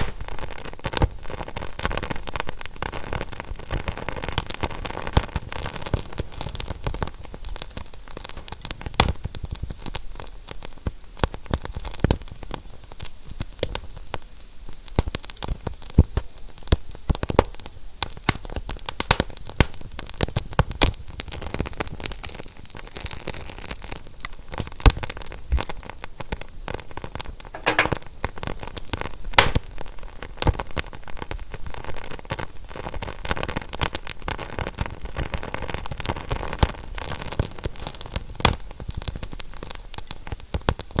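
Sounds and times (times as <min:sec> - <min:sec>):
fire crackling and popping: 0:00.0 - 0:26.2, 0:27.1 - 0:28.2, 0:28.8 - 0:41.0.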